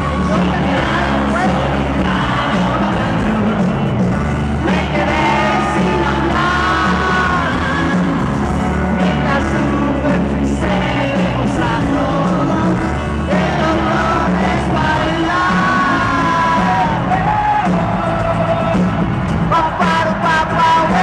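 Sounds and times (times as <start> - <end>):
lead voice singing: 0.0 - 21.0
rock band playing: 0.0 - 21.0
steady bass line: 0.0 - 21.0.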